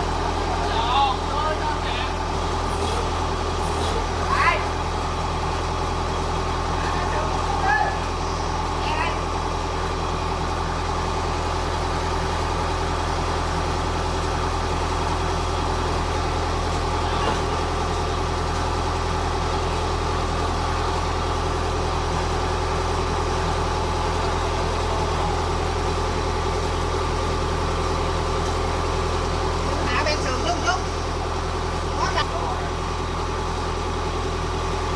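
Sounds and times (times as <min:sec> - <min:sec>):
large engine idling: 0:00.0 - 0:34.9.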